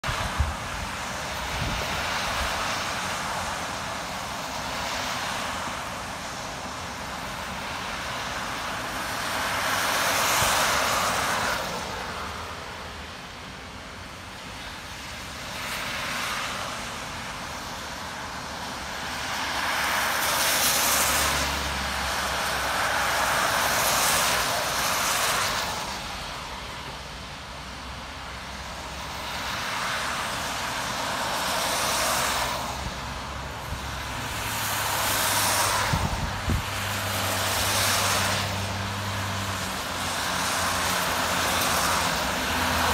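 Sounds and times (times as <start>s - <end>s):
cars passing on wet road: 0.0s - 42.9s.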